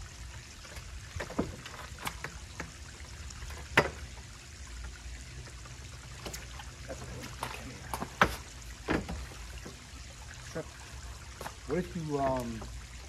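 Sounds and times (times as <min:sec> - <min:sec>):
outdoor background rush: 0:00.0 - 0:13.0.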